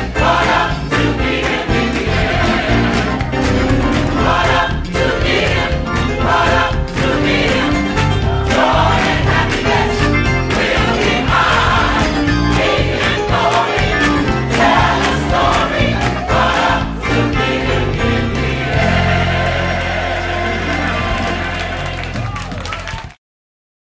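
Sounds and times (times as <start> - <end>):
gospel choir singing: 0.0 - 22.3
piano accompaniment: 0.0 - 22.6
steady beat: 0.1 - 21.5.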